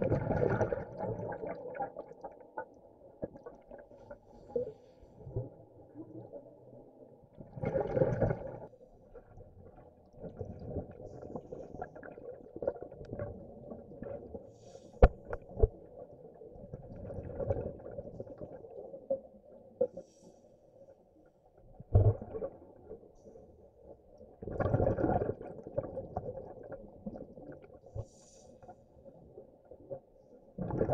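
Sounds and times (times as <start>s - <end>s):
underwater bubbles gurgling: 0.0s - 30.9s.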